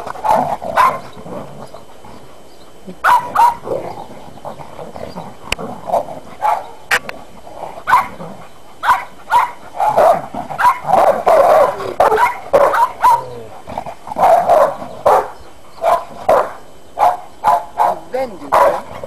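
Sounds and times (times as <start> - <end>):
dogs barking and yipping: 0.0 - 7.1, 7.7 - 19.0.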